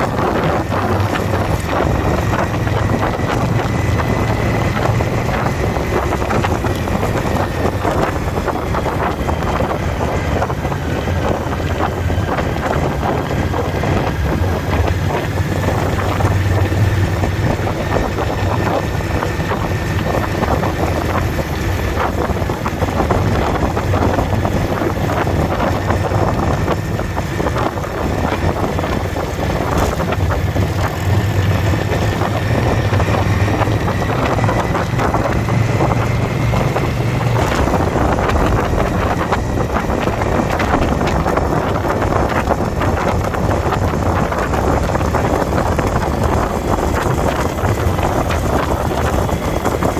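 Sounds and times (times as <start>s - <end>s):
motorcycle engine running: 0.0s - 49.9s
wind noise on microphone: 0.0s - 49.9s.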